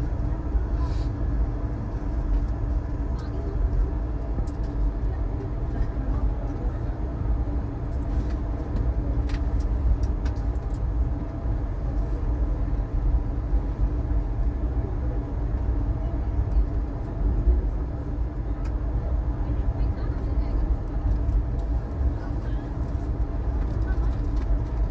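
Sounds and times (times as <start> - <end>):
train rumble inside coach: 0.0 - 24.9.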